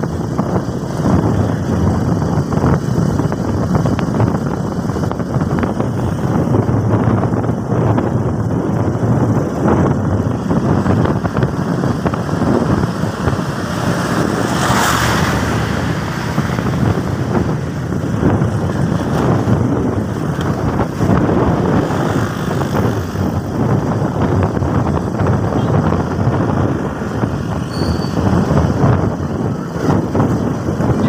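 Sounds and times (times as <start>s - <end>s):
motorcycle engine running: 0.0s - 31.0s
wind rushing over microphone: 0.0s - 31.0s.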